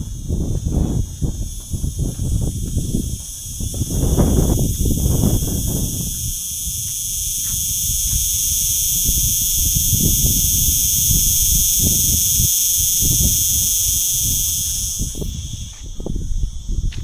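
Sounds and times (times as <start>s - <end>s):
insects buzzing in chorus: 0.0s - 17.0s.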